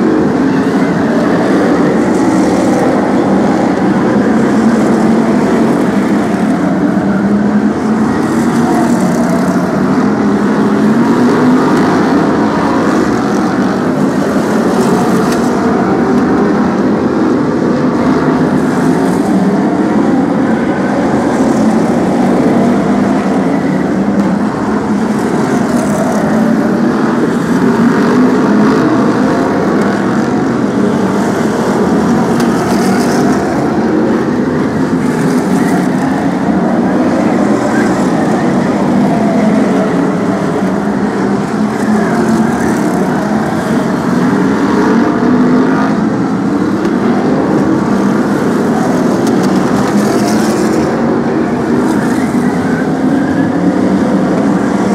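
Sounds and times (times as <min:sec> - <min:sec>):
many race car engines roaring: 0:00.0 - 0:54.9.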